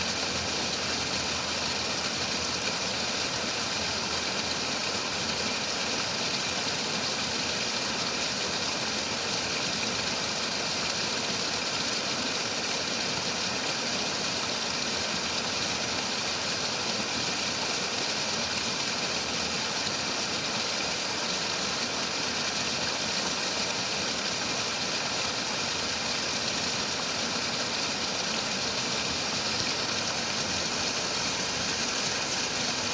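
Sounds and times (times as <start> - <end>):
running water rushing: 0.0 - 32.9.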